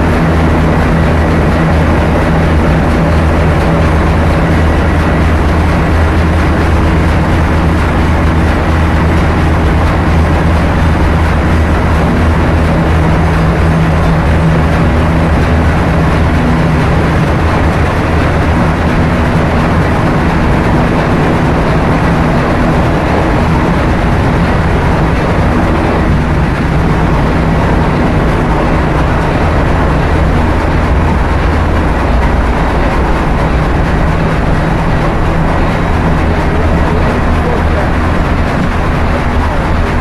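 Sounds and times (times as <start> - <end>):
engine room machinery drone: 0.0 - 40.0.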